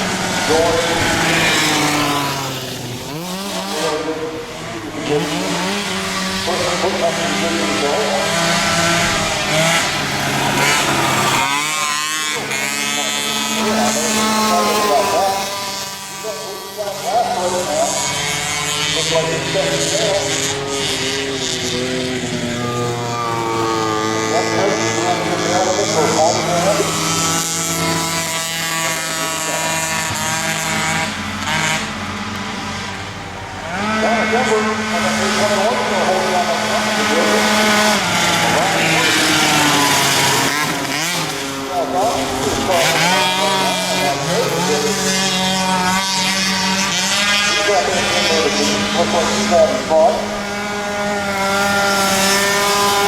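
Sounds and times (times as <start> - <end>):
race engines revving: 0.0 - 53.0.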